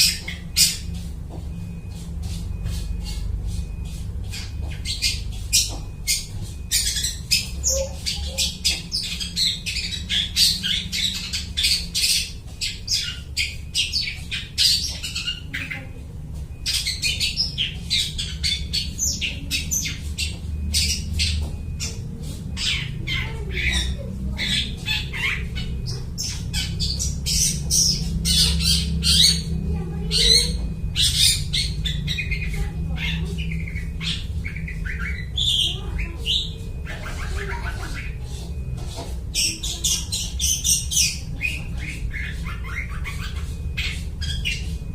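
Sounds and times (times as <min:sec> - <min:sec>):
bird chattering song: 0:00.0 - 0:44.9
steady low hum: 0:00.0 - 0:44.9.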